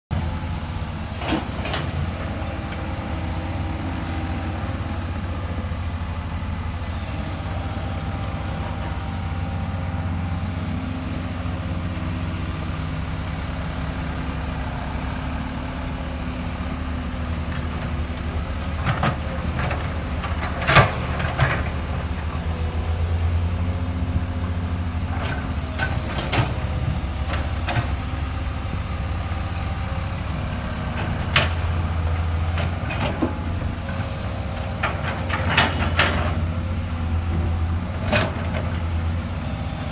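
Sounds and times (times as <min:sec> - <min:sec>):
excavator diesel engine droning: 0:00.1 - 0:39.9.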